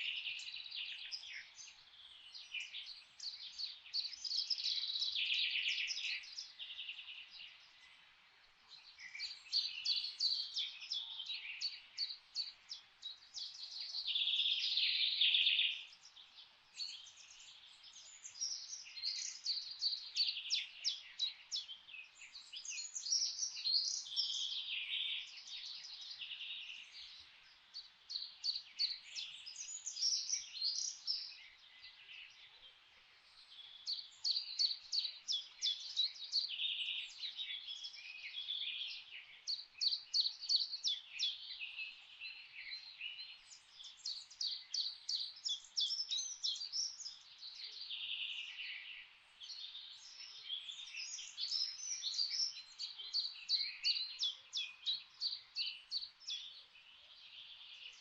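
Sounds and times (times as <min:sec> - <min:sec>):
faint background hiss: 0:00.0 - 0:58.0
songbirds chirping and trilling: 0:00.0 - 0:58.0.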